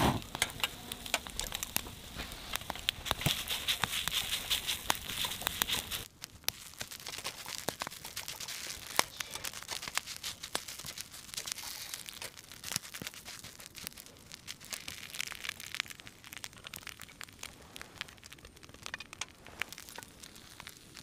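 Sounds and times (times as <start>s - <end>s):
rice sizzling in frying pan: 0.0s - 21.0s
wood fire crackling: 0.0s - 21.0s.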